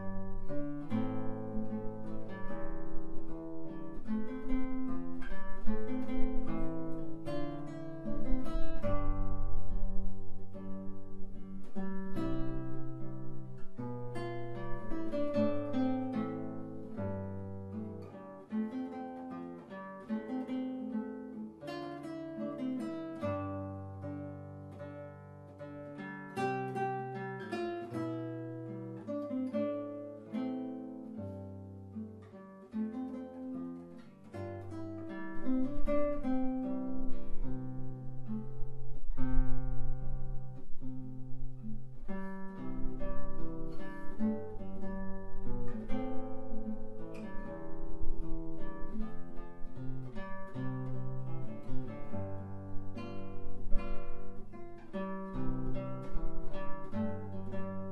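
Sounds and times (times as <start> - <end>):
solo acoustic guitar: 0.0 - 57.9.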